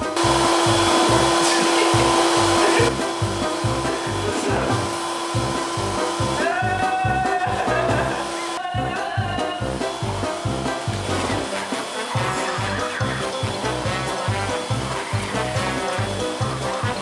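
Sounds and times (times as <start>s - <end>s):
air pump hissing: 0.0s - 17.0s
pump motor hum: 0.0s - 17.0s.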